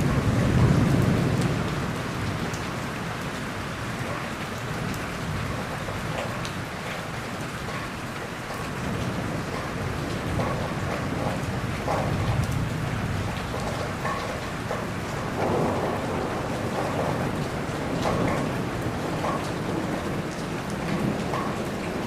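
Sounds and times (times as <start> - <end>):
low thunder rumble: 0.0 - 7.4, 8.6 - 22.0
heavy rain falling: 0.0 - 22.0.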